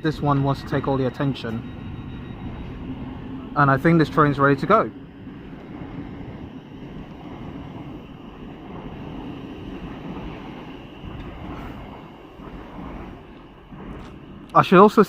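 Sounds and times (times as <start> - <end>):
wind on microphone: 0.0 - 14.9
electric train pulling away: 0.0 - 15.0.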